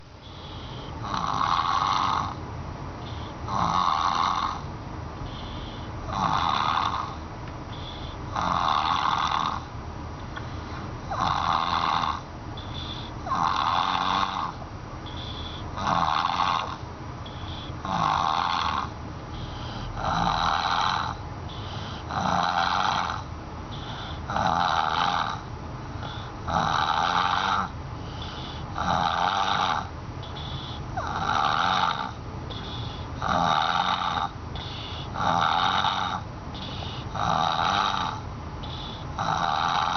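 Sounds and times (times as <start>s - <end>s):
baby snoring with harsh rasp: 0.4s - 2.4s, 3.5s - 4.7s, 6.1s - 7.2s, 7.8s - 9.7s, 11.1s - 16.8s, 17.4s - 39.9s.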